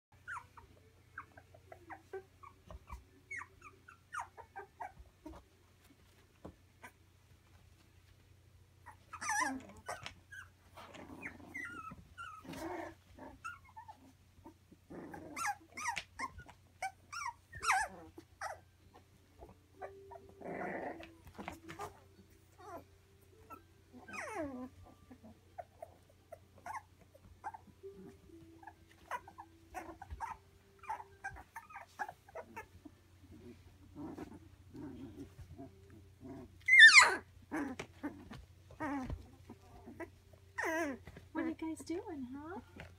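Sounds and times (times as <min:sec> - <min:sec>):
puppies yipping and squealing: 0:00.1 - 0:05.4, 0:08.8 - 0:41.3.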